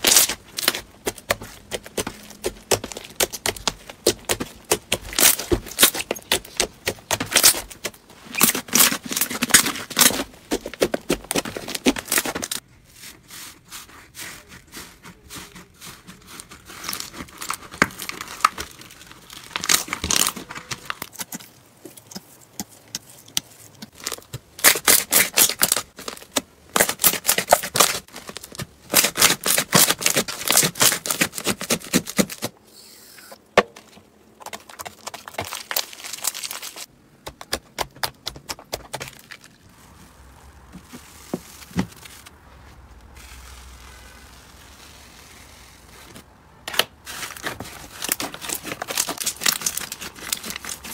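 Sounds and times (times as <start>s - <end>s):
slime squishing and crackling: 0.0s - 32.5s, 34.4s - 50.9s.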